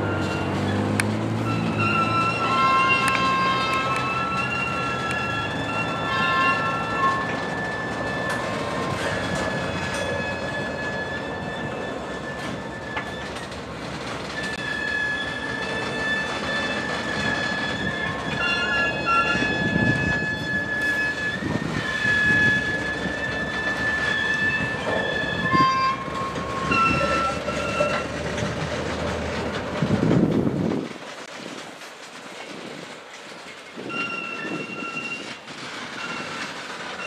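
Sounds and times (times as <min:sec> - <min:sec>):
wheel flange squeal: 0:00.0 - 0:30.5, 0:33.4 - 0:37.0
train wheels rumbling over rail joints: 0:00.0 - 0:37.0.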